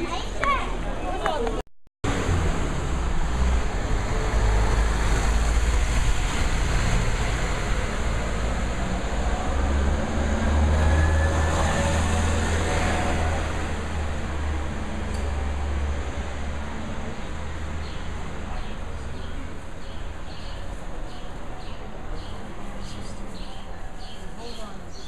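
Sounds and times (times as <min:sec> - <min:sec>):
van engine driving past: 0:02.1 - 0:23.7.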